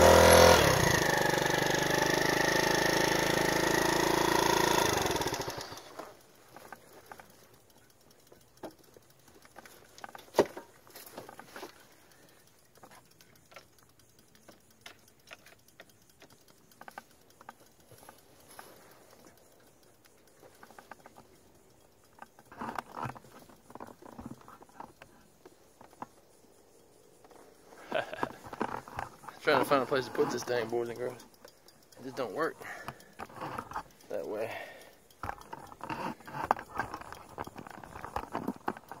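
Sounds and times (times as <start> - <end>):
scooter engine running: 0.0 - 26.6, 27.3 - 39.0
light clicks and taps: 5.7 - 39.0.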